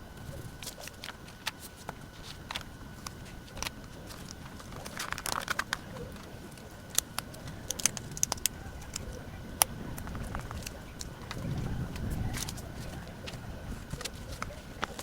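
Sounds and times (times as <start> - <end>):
paper crinkling: 0.0 - 15.0.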